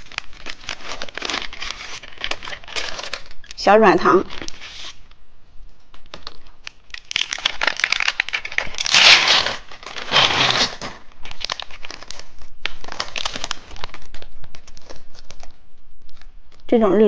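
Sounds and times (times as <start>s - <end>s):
plastic wrapper crinkling: 0.0s - 16.7s.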